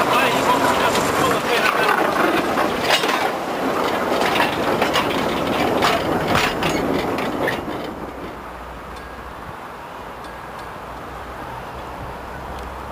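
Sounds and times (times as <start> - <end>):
railway wagon wheels clattering: 0.0 - 12.9.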